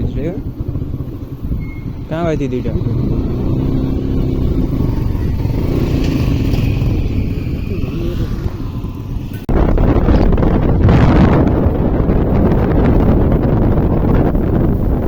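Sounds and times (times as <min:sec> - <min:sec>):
motorcycle engine running: 0:00.0 - 0:15.0
road noise: 0:00.0 - 0:15.0
wind buffeting on microphone: 0:00.0 - 0:15.0.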